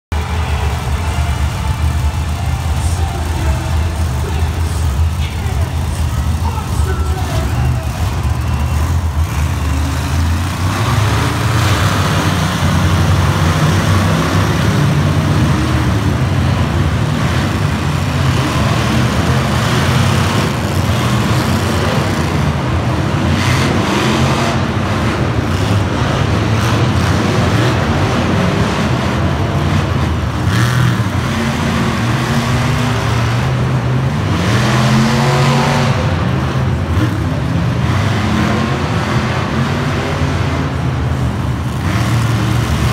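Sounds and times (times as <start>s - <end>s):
monster truck engines revving: 0.0s - 42.9s.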